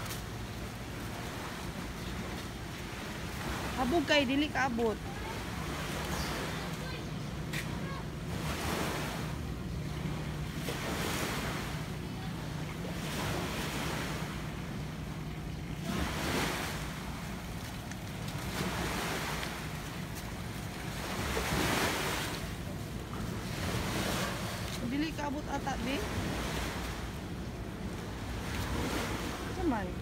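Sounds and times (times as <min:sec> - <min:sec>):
sea waves washing against wall: 0:00.0 - 0:30.0.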